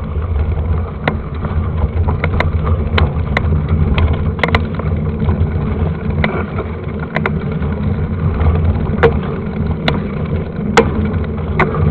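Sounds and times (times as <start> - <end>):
bike rattling over bumps: 0.0 - 11.9
wind and tyres rumbling on trail: 0.0 - 11.9.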